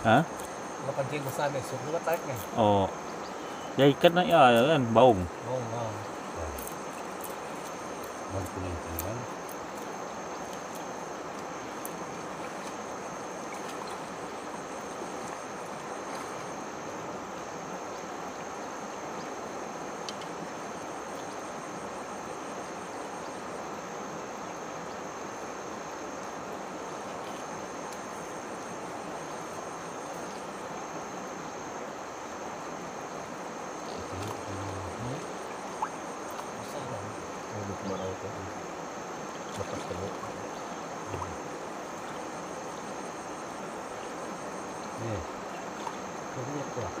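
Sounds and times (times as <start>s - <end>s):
high-pitched insect drone: 0.0s - 47.0s.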